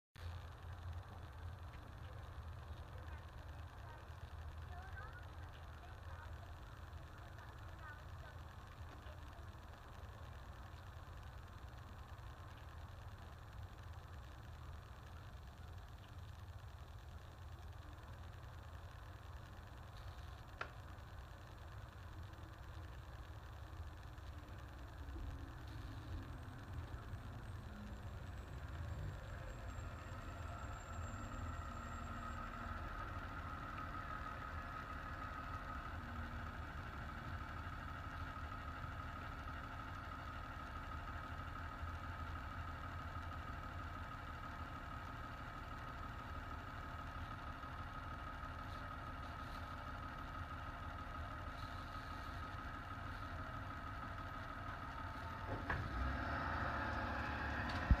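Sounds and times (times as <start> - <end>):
vehicle engine idling: 0.2 - 58.0.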